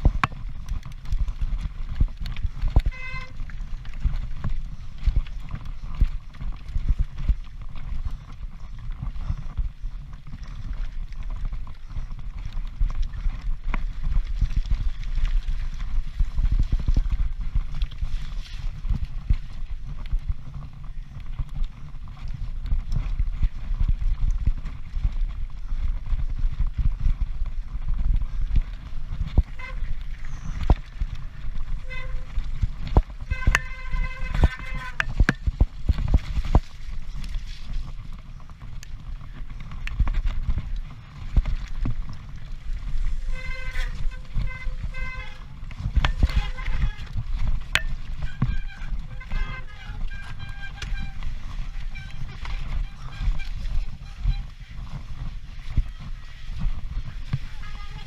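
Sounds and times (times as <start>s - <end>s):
bike frame rattling: 0.0s - 58.0s
wind buffeting microphone: 0.0s - 58.0s.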